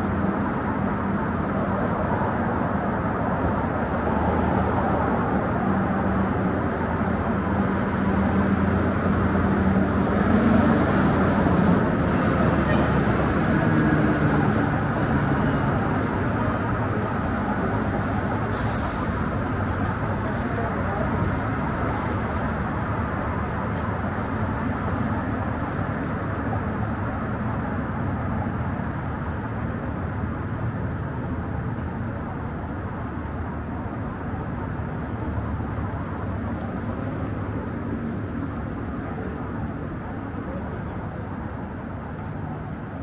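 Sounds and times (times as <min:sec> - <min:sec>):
traffic running by: 0:00.0 - 0:43.0.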